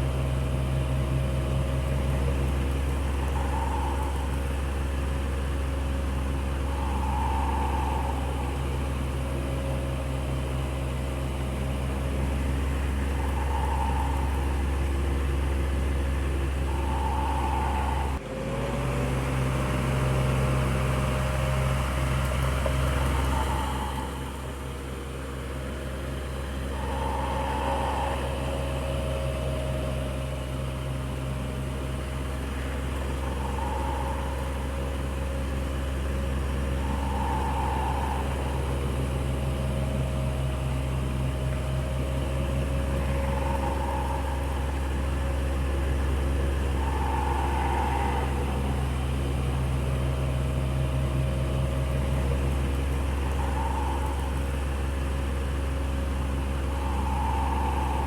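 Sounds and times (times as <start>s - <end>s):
electric fan hum: 0.0s - 58.0s
faint swishes: 2.7s - 11.2s, 11.8s - 18.4s, 26.2s - 58.0s.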